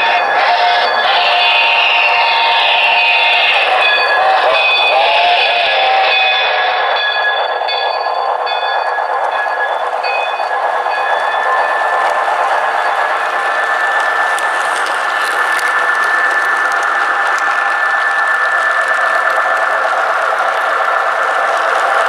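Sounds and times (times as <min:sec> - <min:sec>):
model train rolling over track: 0:00.0 - 0:22.0.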